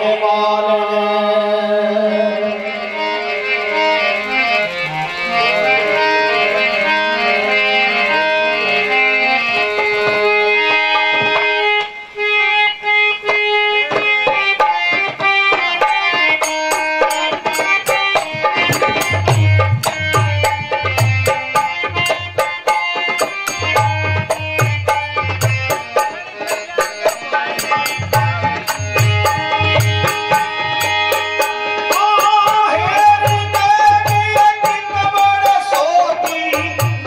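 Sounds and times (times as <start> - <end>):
harmonium melody: 0.0 - 37.0.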